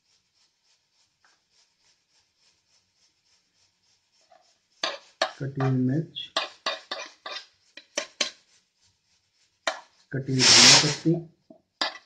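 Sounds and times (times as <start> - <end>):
soft pulsing hiss: 0.0 - 11.7.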